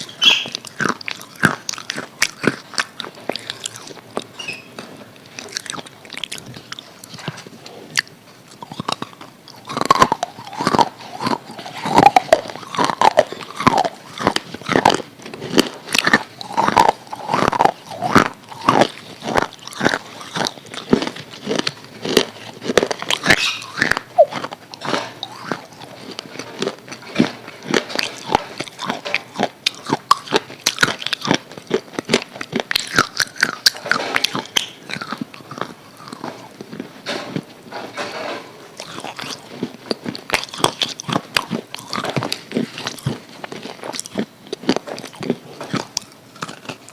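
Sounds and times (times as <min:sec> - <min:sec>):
person chewing crispy chicken: 0:00.0 - 0:46.9.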